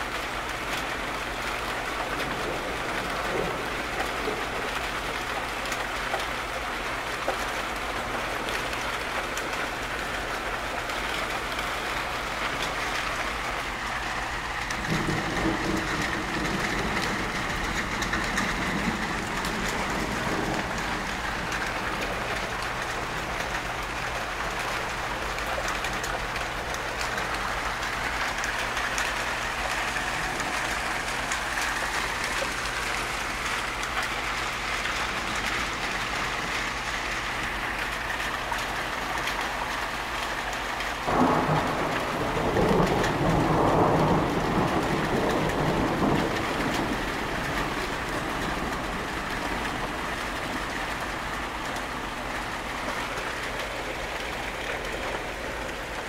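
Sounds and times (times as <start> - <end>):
thunder rumbling: 0.0 - 40.0, 40.8 - 56.0
steady rain: 0.0 - 56.0.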